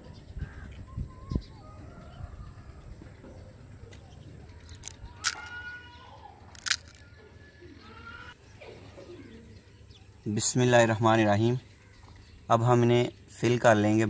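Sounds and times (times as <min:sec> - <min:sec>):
birds calling faintly: 0:00.0 - 0:14.0.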